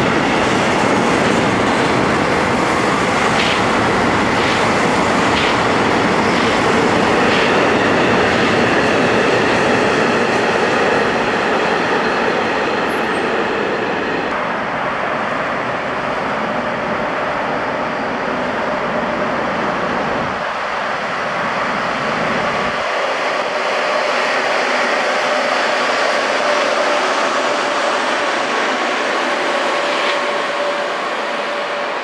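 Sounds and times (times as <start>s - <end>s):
train wheels rolling on rail: 0.0s - 32.0s
train whine: 0.0s - 32.0s.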